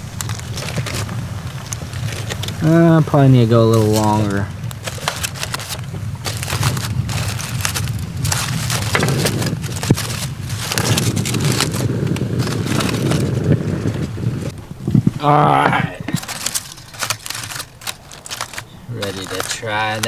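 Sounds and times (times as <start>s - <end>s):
aluminium foil crinkling: 0.0s - 14.1s, 15.9s - 20.0s.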